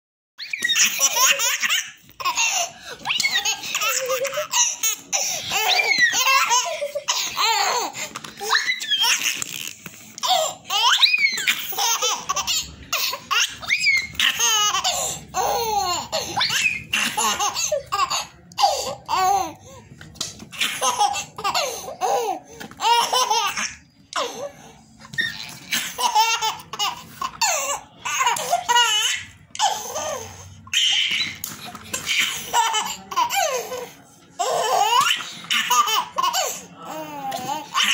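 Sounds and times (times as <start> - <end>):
toddler belly laughing: 0.4 - 19.5, 20.6 - 24.5, 25.1 - 37.9.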